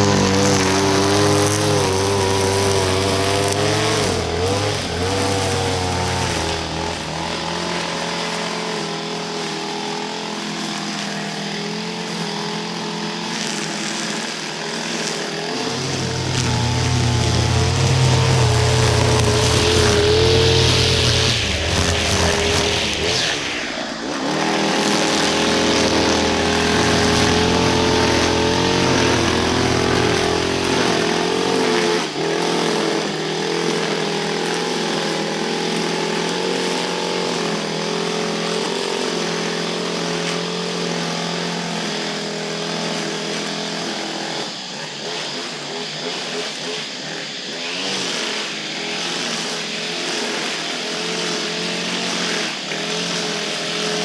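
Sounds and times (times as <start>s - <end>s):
small two-stroke engine running: 0.0s - 54.0s.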